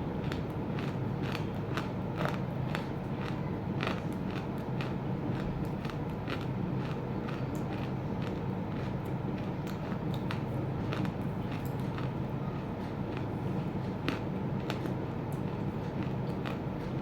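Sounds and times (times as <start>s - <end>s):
steady low hum: 0.0s - 17.0s
crunching clay between teeth: 0.2s - 17.0s.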